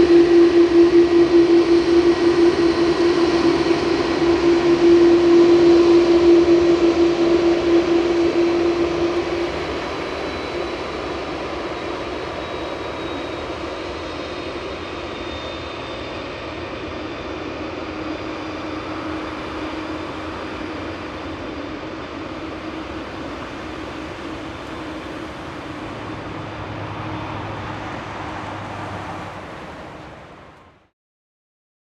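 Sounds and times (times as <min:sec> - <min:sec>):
jet engines humming: 0:00.0 - 0:30.9.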